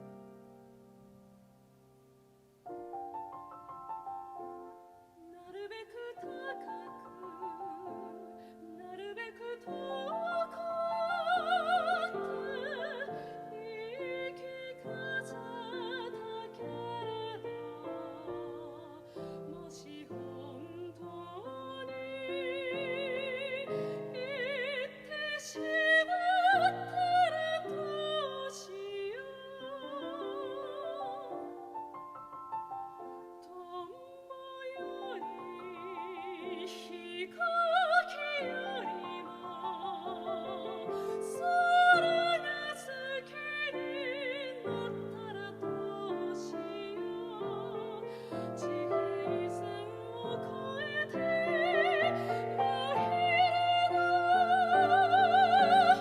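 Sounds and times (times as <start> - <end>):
piano accompaniment: 2.6 - 56.0
soprano singing with vibrato: 2.8 - 56.0.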